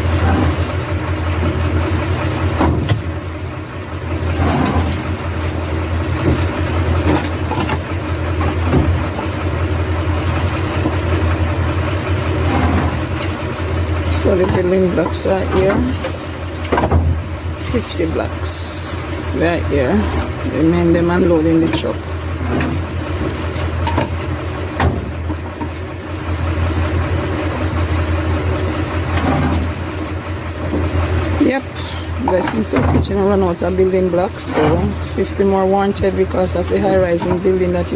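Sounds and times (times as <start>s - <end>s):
truck engine idling: 0.0s - 37.9s.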